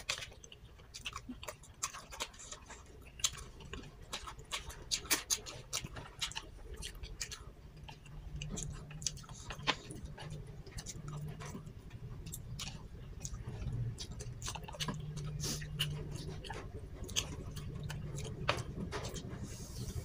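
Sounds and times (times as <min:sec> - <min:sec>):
chewing and mouth noises: 0:00.0 - 0:20.0.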